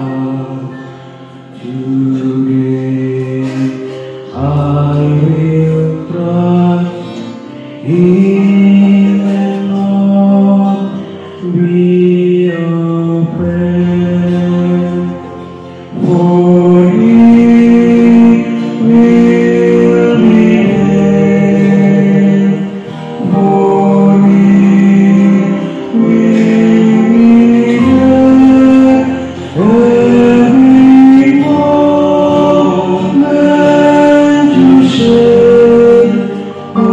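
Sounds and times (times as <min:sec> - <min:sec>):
male choir singing a hymn: 0:00.0 - 0:36.9.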